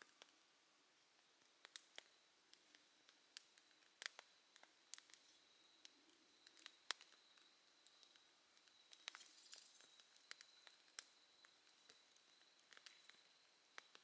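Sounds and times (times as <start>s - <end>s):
bonfire crackling and popping: 1.2s - 14.0s.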